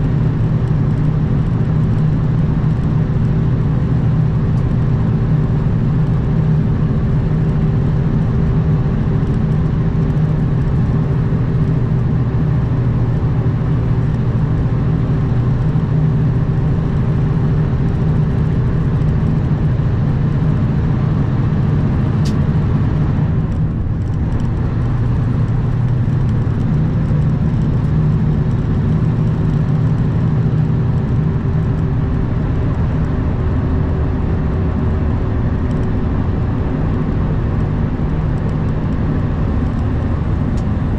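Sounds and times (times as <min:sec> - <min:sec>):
diesel truck engine running: 0:00.0 - 0:40.9
road and wind noise: 0:00.0 - 0:40.9.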